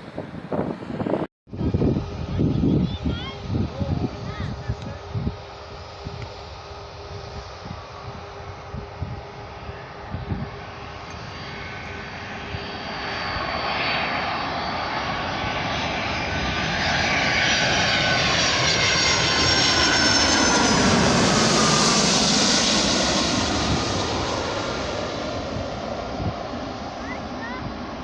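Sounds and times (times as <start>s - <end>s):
jet plane flying past: 0.0s - 28.0s.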